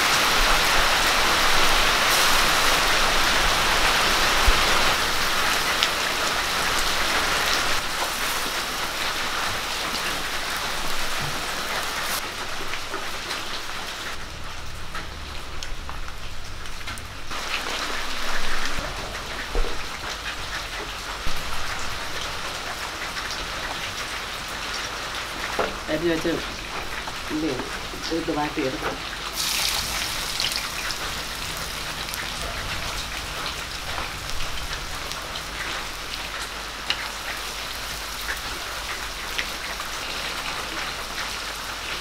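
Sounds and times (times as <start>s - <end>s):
fish frying in hot oil: 0.0s - 42.0s.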